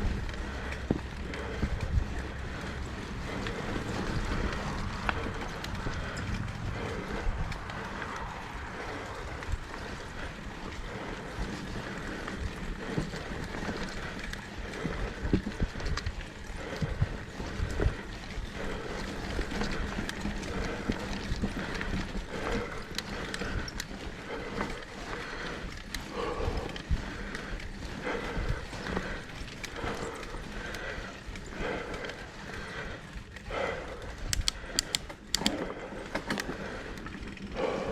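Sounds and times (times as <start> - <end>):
bike clattering over bumps: 0.0 - 37.9.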